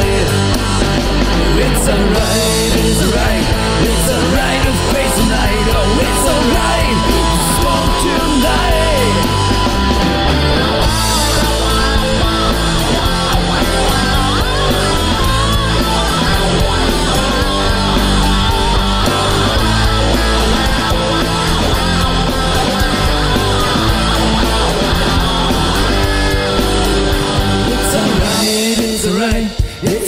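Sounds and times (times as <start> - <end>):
loud rock music: 0.0 - 30.0.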